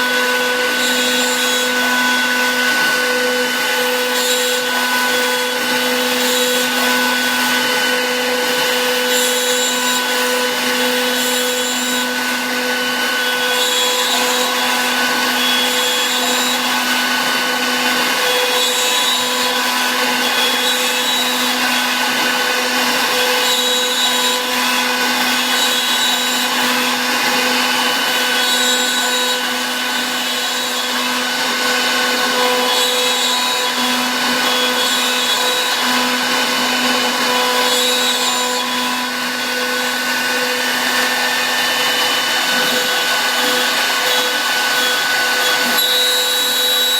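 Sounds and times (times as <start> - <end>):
cutter milling plastic sheet: 0.0 - 46.9
milling machine spindle whine: 0.0 - 46.9.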